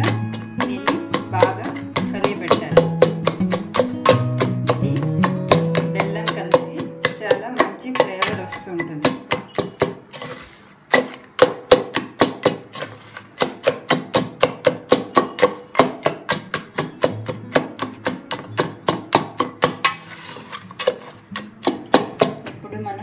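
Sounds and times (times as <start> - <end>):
music with plucked beat: 0.0 - 10.1, 11.0 - 22.6.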